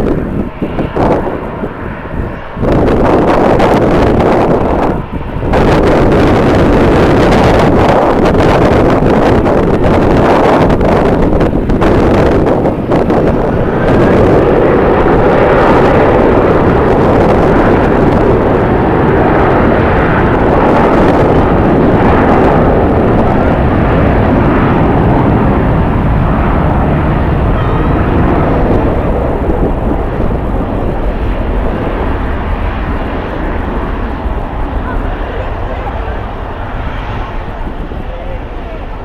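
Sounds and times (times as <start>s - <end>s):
jet engines running: 0.0s - 39.0s
wind buffeting microphone: 0.0s - 39.0s.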